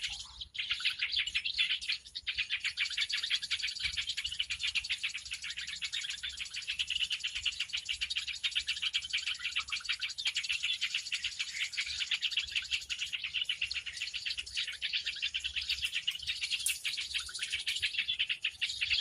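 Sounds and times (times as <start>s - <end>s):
birds chattering: 0.0s - 19.0s.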